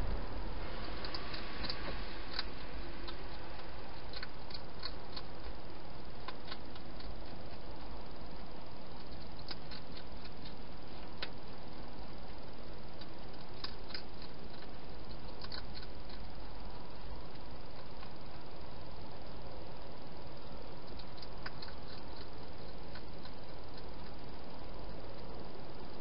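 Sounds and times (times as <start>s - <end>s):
background hiss: 0.0s - 26.0s
hedgehog crunching food: 0.0s - 26.0s.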